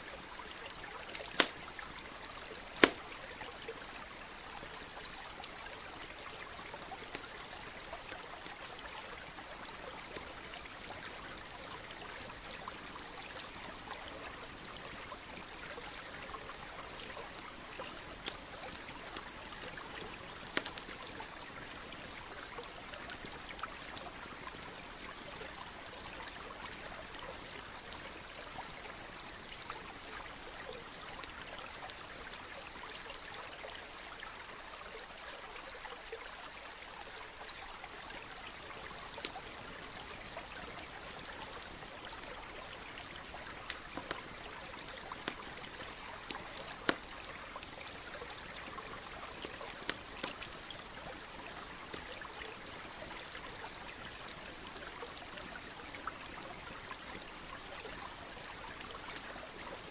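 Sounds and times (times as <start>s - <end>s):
campfire crackling and popping: 0.0s - 35.1s, 37.8s - 59.9s.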